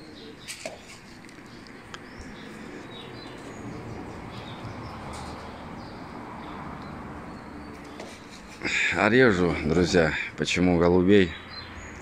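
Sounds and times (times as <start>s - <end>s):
pigeons cooing: 0.0s - 10.3s.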